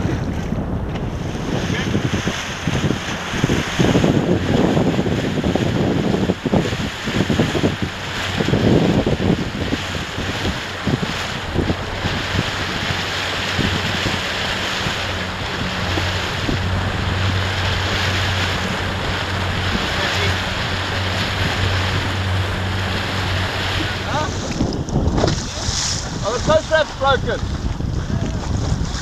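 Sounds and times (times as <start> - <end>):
steady low drone: 0.0 - 26.3
rushing water: 0.0 - 29.0
wind buffeting microphone: 0.0 - 29.0.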